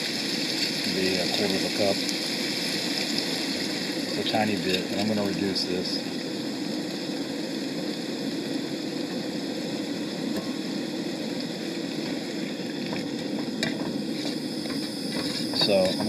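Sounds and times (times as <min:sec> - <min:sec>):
camp stove burner hissing: 0:00.0 - 0:16.0
food sizzling in a pan: 0:00.0 - 0:16.0.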